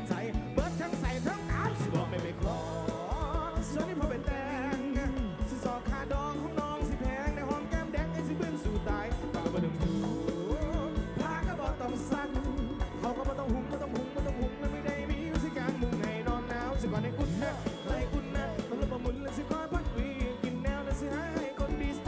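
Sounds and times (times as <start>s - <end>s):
drum beat: 0.0s - 22.0s
live rock band playing: 0.0s - 22.0s
man singing: 0.0s - 22.0s.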